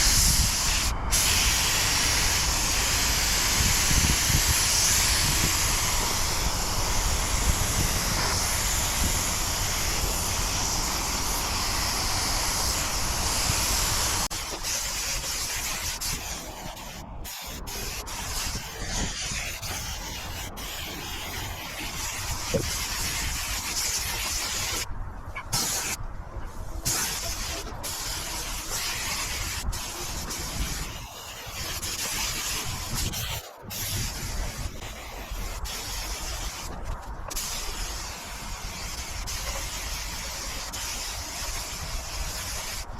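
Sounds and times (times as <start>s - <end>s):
paint spray gun hissing: 0.0s - 24.9s, 25.5s - 26.0s, 26.8s - 42.9s.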